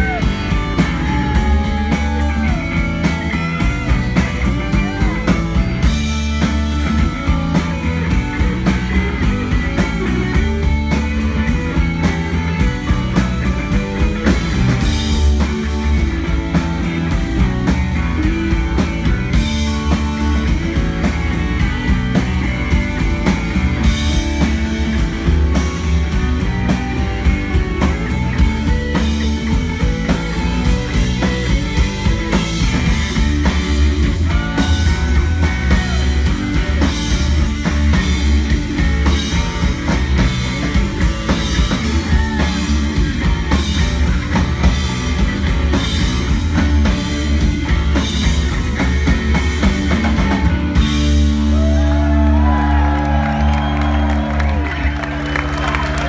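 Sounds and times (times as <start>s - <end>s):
drum kit beat: 0.0s - 56.0s
electric bass: 0.0s - 56.0s
electric guitar: 0.0s - 56.0s.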